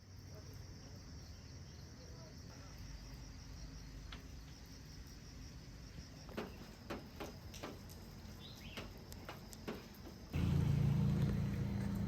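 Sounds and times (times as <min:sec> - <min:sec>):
crickets droning: 0:00.0 - 0:12.0.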